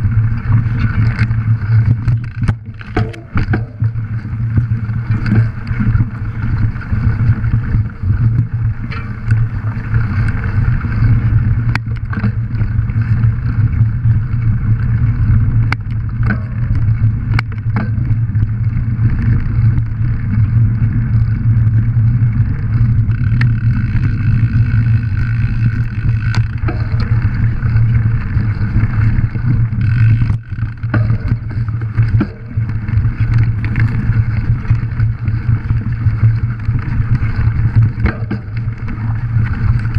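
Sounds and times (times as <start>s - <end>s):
bike clicking and rattling: 0.0s - 39.9s
tyres rumbling on dirt: 0.0s - 39.9s
wind on microphone: 0.0s - 39.9s.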